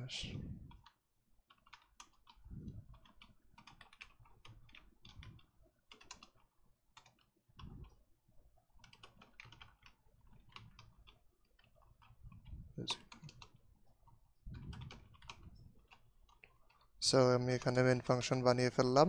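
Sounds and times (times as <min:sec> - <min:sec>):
typing on computer keyboard: 0:00.7 - 0:18.3.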